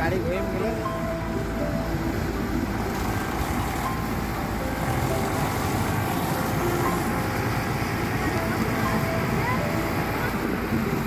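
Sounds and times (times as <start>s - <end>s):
tractor diesel engines under load: 0.0s - 11.0s.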